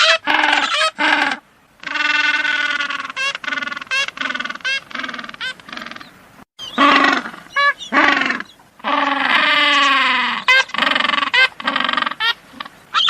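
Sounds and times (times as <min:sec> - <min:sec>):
animal calling in wavering cries: 0:00.0 - 0:13.0.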